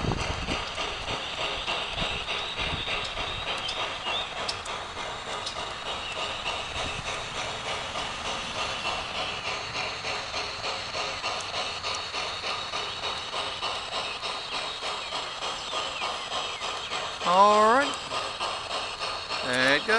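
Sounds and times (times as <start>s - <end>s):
model train wheels clicking: 0.0s - 19.9s
steady hiss: 0.5s - 19.9s.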